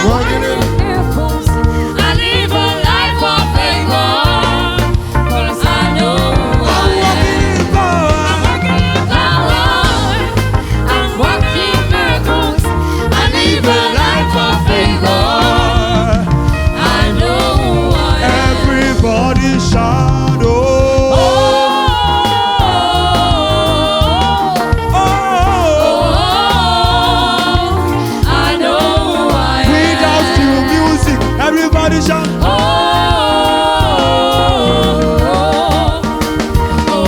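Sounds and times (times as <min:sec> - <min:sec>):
choir singing: 0:00.0 - 0:37.0
live band with bass and drums: 0:00.0 - 0:37.0.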